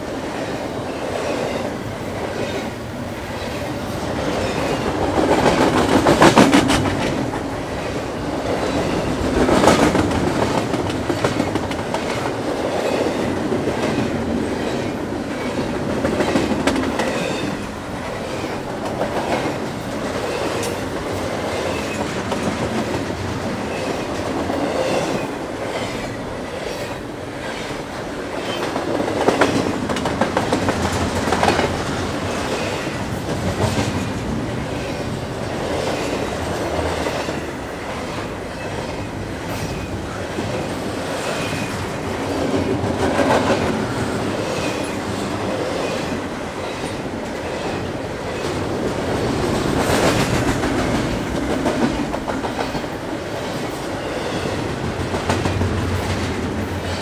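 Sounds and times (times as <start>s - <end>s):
train wheels clacking over rail joints: 4.2s - 57.0s.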